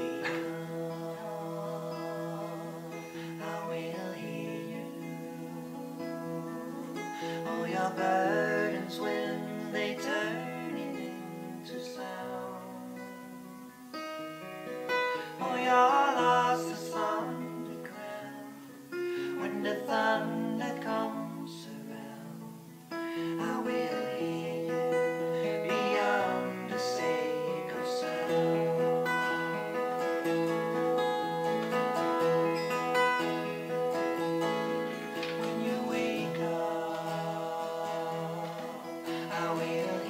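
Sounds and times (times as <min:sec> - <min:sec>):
men singing: 0:00.0 - 0:13.3, 0:15.1 - 0:30.5, 0:32.3 - 0:40.0
acoustic guitars playing: 0:00.0 - 0:40.0.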